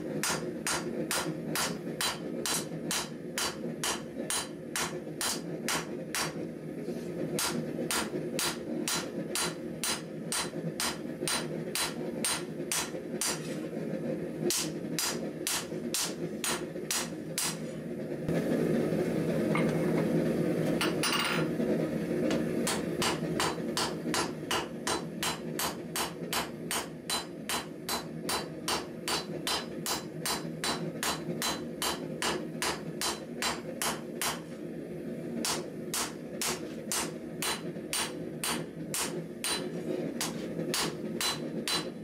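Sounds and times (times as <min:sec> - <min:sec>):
hammer striking steel on anvil: 0:00.2 - 0:06.4, 0:07.4 - 0:13.5, 0:14.5 - 0:17.6, 0:22.6 - 0:34.4, 0:35.4 - 0:42.0.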